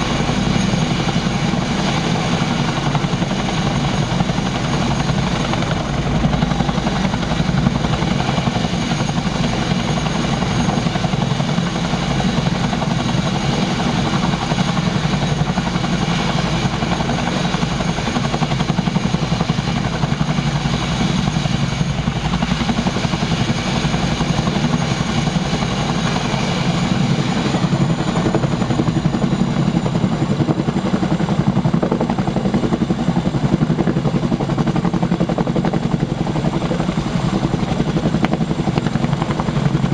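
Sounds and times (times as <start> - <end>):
helicopter rotors and engines: 0.0 - 39.9.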